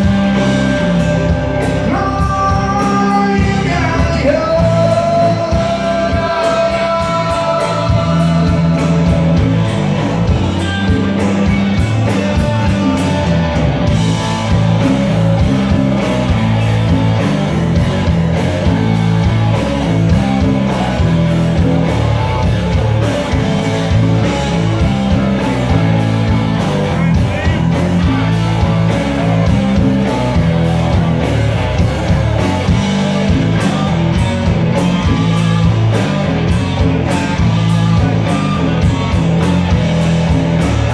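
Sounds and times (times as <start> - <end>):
bass guitar: 0.0 - 40.9
drum kit: 0.0 - 40.9
electric guitars: 0.0 - 40.9.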